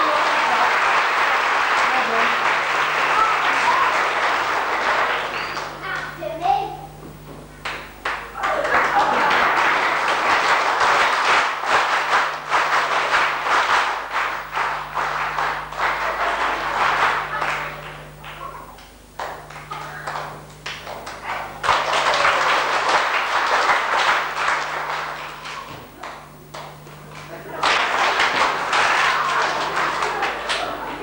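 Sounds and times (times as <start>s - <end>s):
audience clapping: 0.0s - 6.6s, 7.6s - 31.0s
steady low hum: 0.0s - 31.0s.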